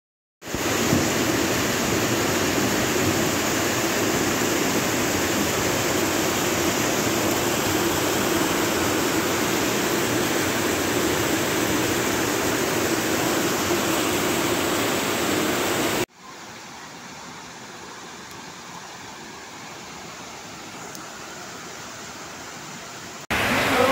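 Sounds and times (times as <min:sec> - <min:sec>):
heavy rain: 0:00.4 - 0:16.1, 0:16.8 - 0:23.9
floodwater rushing: 0:00.4 - 0:23.9.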